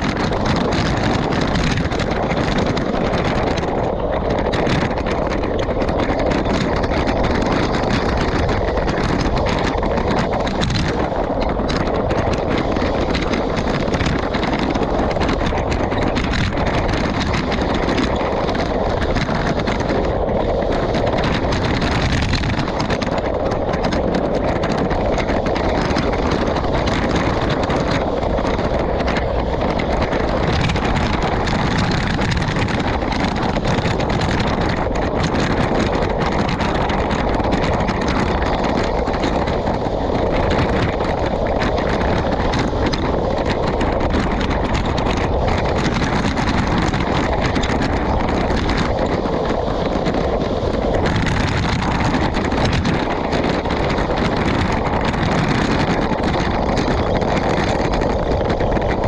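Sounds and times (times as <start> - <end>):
bike rolling noise: 0.0 - 59.0
wind rushing over microphone: 0.0 - 59.0.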